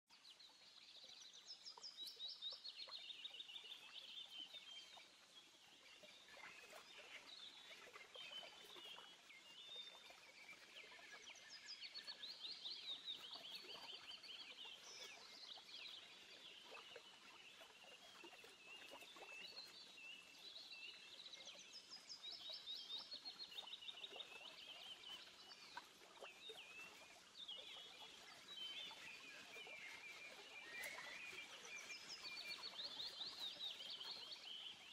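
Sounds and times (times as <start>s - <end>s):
small birds chirping and trilling: 0.2s - 34.9s.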